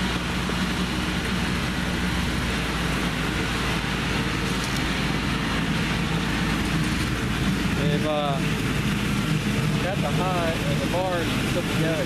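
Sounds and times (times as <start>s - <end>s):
tractor engine driving past: 0.0s - 12.0s.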